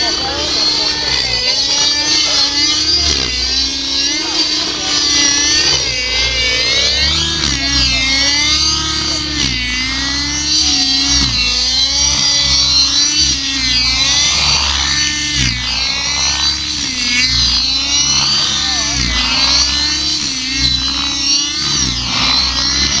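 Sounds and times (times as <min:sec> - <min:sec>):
model helicopter engine whine: 0:00.0 - 0:23.0.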